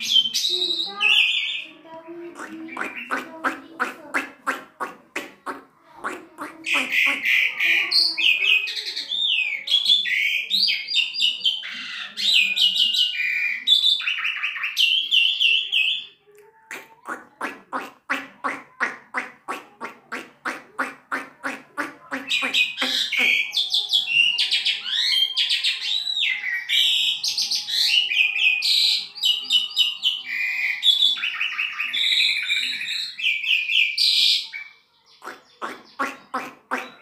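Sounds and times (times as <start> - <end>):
starling singing: 0.0 - 37.0.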